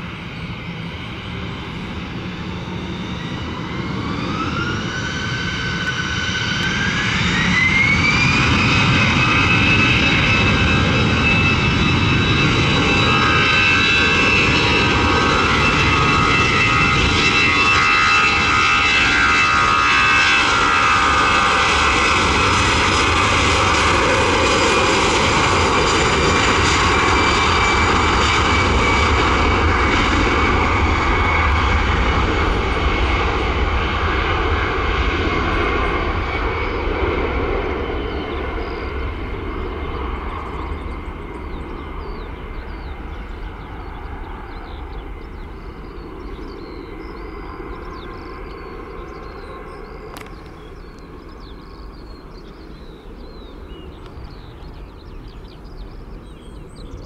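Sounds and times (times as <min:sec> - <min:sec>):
rushing jet noise: 0:00.0 - 0:51.9
jet engine whine: 0:00.0 - 0:57.0.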